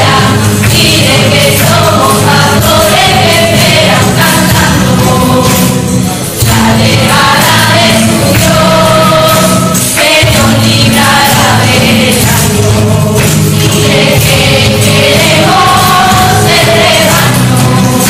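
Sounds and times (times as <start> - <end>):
choir of young voices singing: 0.0 - 18.0
instrumental backing: 0.0 - 18.0.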